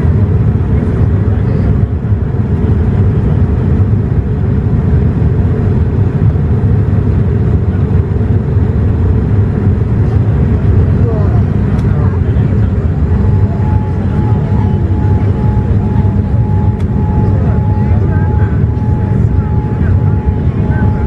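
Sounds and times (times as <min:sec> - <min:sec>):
airplane cabin engine drone: 0:00.0 - 0:21.0.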